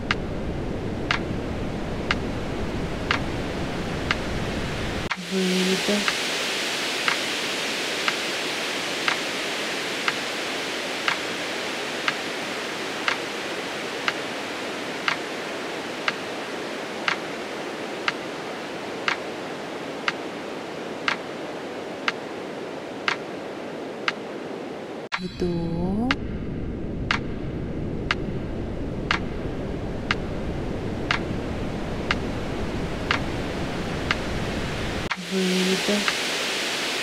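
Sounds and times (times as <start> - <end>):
steady hiss: 0.0 - 25.6, 27.0 - 37.0.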